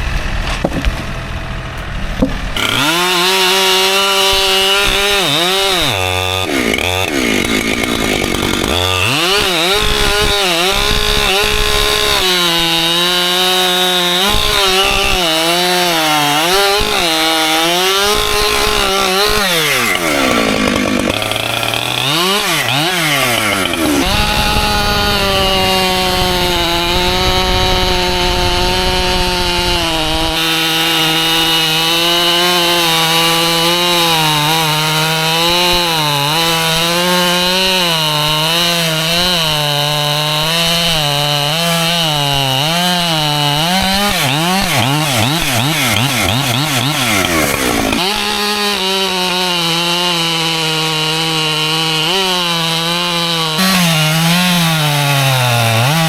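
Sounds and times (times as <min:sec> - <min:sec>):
chainsaw cutting logs: 0:00.0 - 0:56.0.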